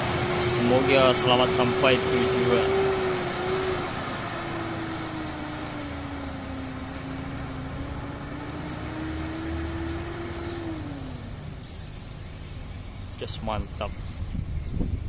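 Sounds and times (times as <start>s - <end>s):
bus engine driving away: 0.0s - 13.6s
engine whine: 0.0s - 15.0s.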